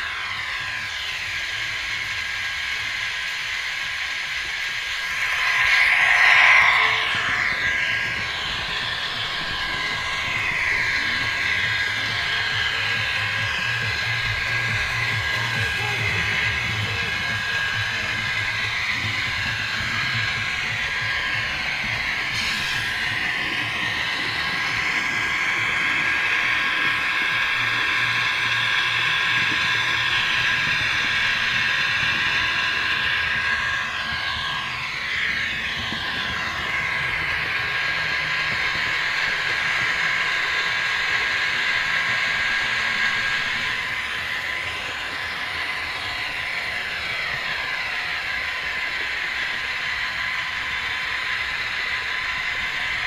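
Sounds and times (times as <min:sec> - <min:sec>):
model train motors whining: 0:00.0 - 0:53.0
wheels rolling on rails: 0:04.0 - 0:53.0
diesel engine sound from small speaker: 0:05.2 - 0:53.0.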